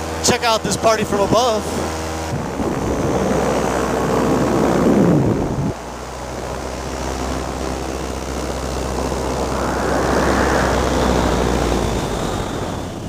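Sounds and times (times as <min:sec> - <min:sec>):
paramotor engine running: 0:00.0 - 0:13.0
wind rush on microphone: 0:00.0 - 0:13.0.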